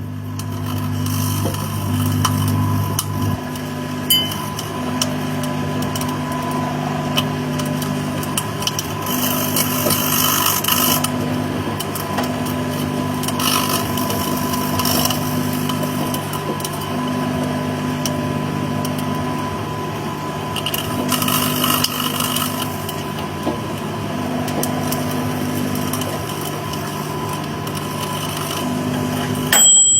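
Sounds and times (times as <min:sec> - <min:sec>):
microwave oven humming: 0:00.0 - 0:29.9.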